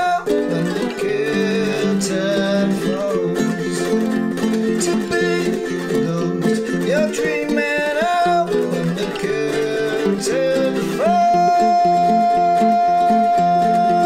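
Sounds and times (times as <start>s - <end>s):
man singing: 0.0s - 14.0s
ukuleles strummed and picked: 0.0s - 14.0s.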